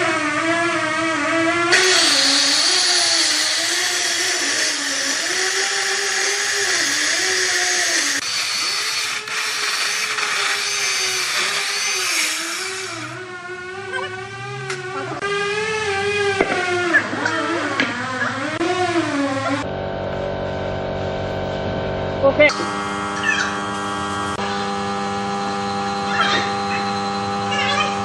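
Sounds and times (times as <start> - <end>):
power tool cutting wood: 0.0 - 19.6, 22.5 - 28.0.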